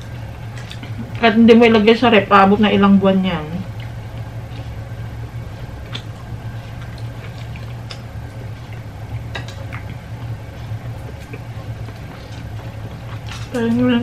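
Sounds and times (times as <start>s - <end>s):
chewing: 0.0s - 1.3s, 3.6s - 14.0s
steady low hum: 0.0s - 14.0s.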